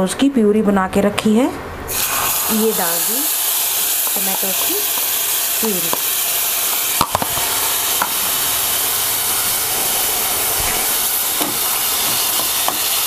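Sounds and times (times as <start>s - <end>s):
tomato puree sizzling in hot oil: 1.9s - 13.0s.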